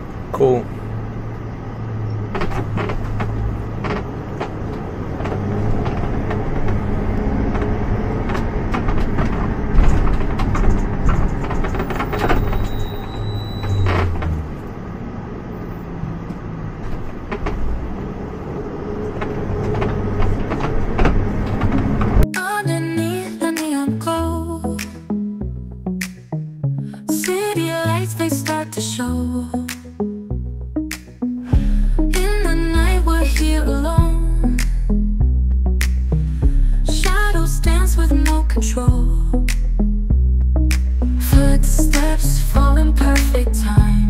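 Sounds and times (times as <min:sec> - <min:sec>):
vehicle engine and road drone: 0:00.0 - 0:22.3, 0:24.1 - 0:44.0.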